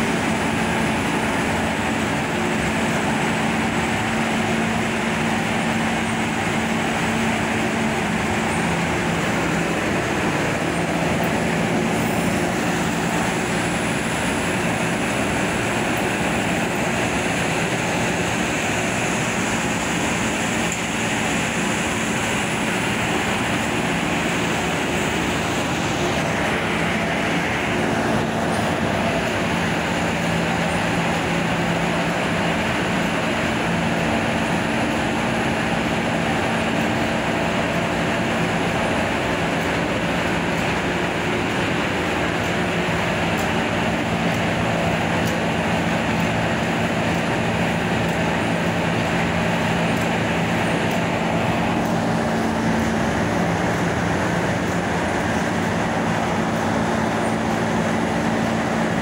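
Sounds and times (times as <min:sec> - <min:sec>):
extruder machinery din: 0:00.0 - 0:59.0
steady machine hum: 0:00.0 - 0:59.0.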